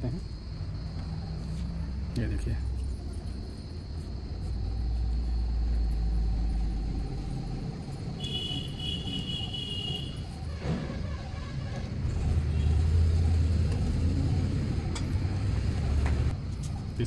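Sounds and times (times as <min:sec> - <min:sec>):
passing motor vehicle rumble: 0:00.2 - 0:17.0.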